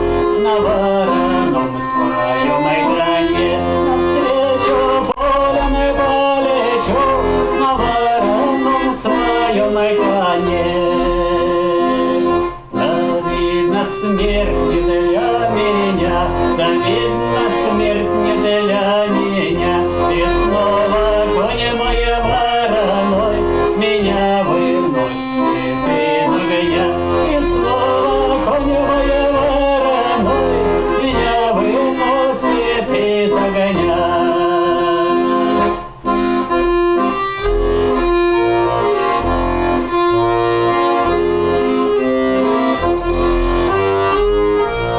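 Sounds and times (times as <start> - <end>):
accordion playing folk tune: 0.0 - 44.9.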